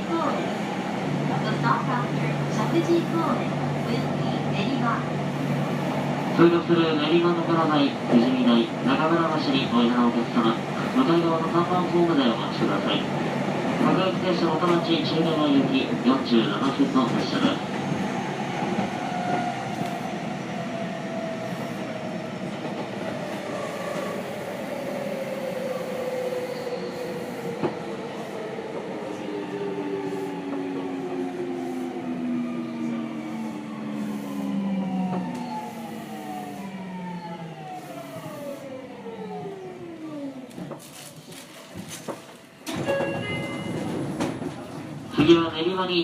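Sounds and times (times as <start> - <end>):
train rail noise: 0.0 - 46.0.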